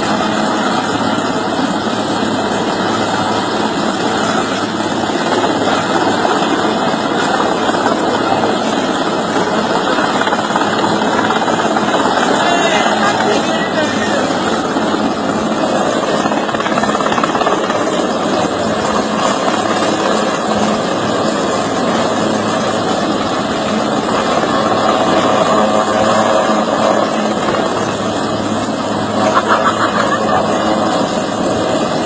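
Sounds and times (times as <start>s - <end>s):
helicopter rotor and engine: 0.0s - 32.0s.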